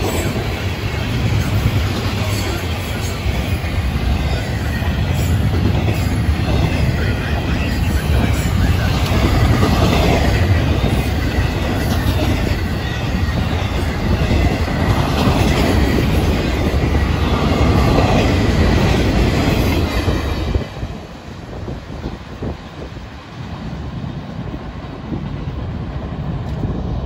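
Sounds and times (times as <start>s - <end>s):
clickety-clack of rail joints: 0.0s - 27.0s
freight train rumbling past: 0.0s - 27.0s.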